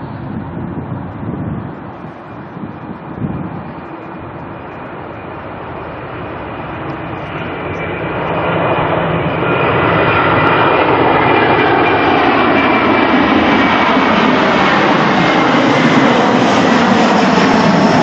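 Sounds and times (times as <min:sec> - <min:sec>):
jet engines roaring: 0:00.0 - 0:18.0
faint high whine: 0:01.8 - 0:16.3.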